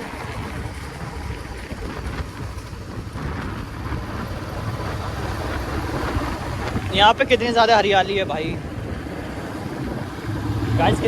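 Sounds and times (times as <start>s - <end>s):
motorcycle engine running: 0.0s - 11.0s
wind rumble on microphone: 0.0s - 11.0s.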